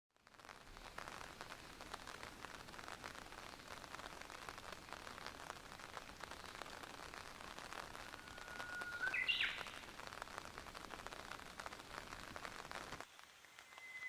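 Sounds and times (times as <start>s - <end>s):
rain pattering on leaves: 0.1s - 14.0s.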